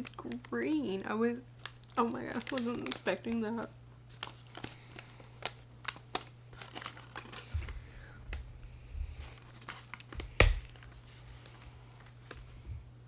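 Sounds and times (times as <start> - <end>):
candy wrapper crinkling: 0.0 - 0.6, 1.5 - 8.5, 9.2 - 12.6.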